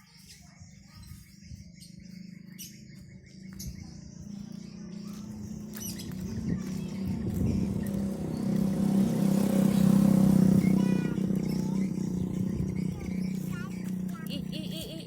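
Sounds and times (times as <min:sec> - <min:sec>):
bird chirps: 0:00.0 - 0:15.0
vehicle engine approaching: 0:02.2 - 0:15.0.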